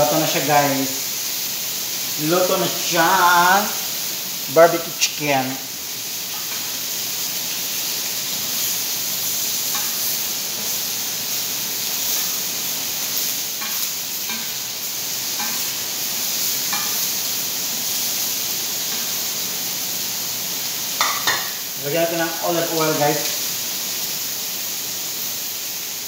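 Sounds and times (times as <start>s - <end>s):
chicken sizzling on steel plate: 0.0s - 26.0s.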